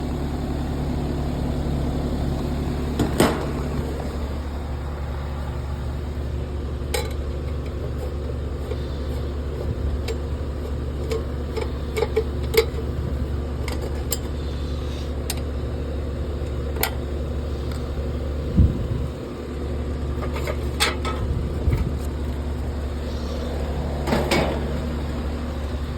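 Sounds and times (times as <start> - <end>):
low machine hum: 0.0 - 25.9.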